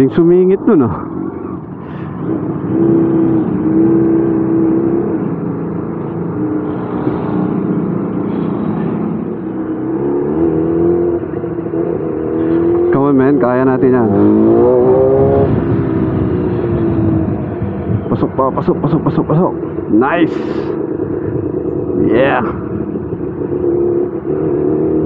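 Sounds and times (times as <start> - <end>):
motorcycle engine running: 0.4 - 25.0.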